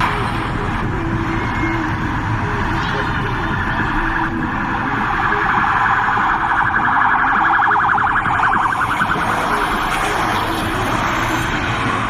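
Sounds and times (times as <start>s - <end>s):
shrill pulsing tram trill: 0.0s - 12.0s.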